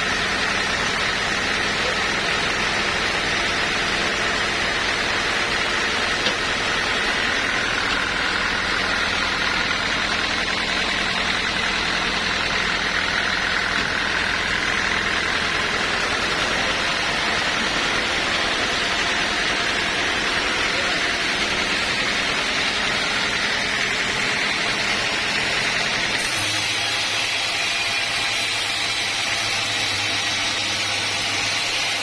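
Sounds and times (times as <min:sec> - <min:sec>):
machine engine running steadily: 0:00.0 - 0:32.0.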